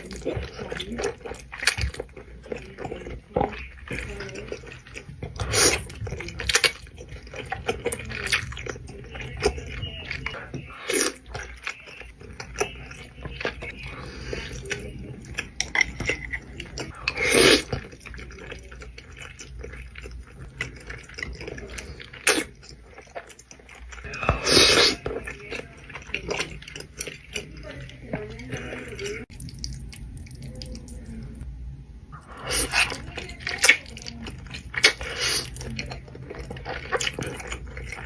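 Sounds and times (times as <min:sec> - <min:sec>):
wet chewing: 0:00.0 - 0:31.5, 0:32.1 - 0:38.0.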